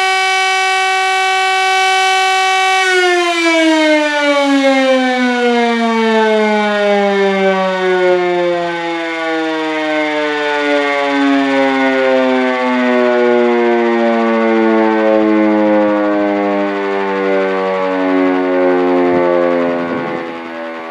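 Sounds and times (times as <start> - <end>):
warning siren long tone: 0.0 - 20.9.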